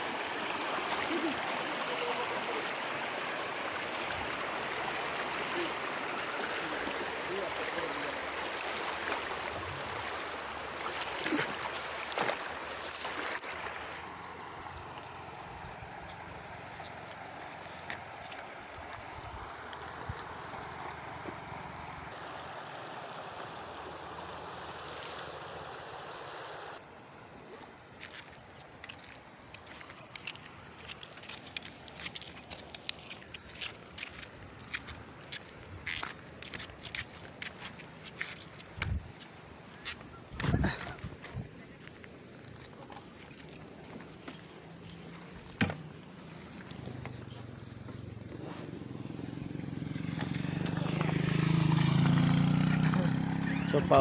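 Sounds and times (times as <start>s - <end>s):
stream splashing over rocks: 0.0s - 26.9s, 27.5s - 54.0s.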